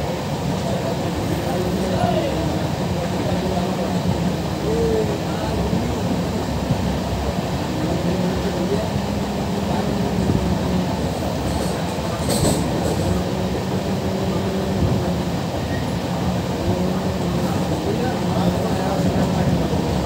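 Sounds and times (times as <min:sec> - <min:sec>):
train rolling with low hum: 0:00.0 - 0:20.0.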